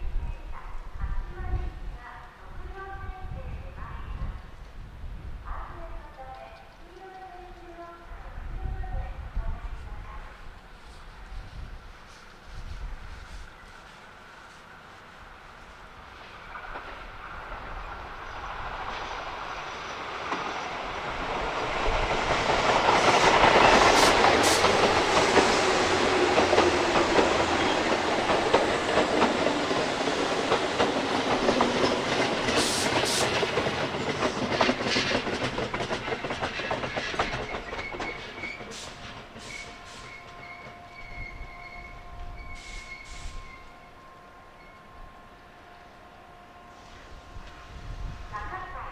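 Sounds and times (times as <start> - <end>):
electric train passing: 5.0 - 48.9.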